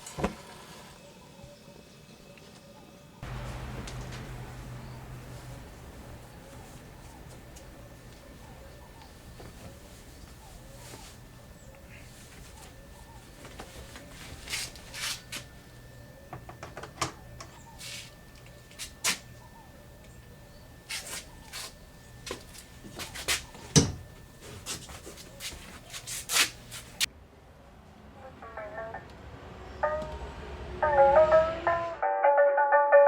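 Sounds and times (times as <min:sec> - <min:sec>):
faint steady hum: 0:00.0 - 0:31.4.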